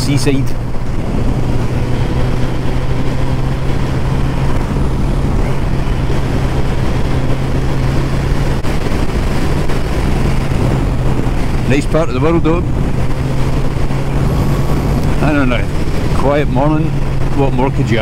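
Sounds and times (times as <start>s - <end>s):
motorcycle engine cruising: 0.0s - 18.0s
road noise: 0.0s - 18.0s.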